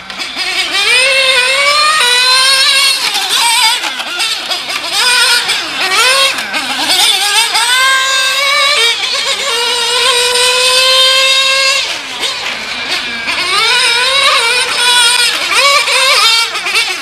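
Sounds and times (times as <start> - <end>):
rc car engine buzzing whine: 0.0 - 17.0.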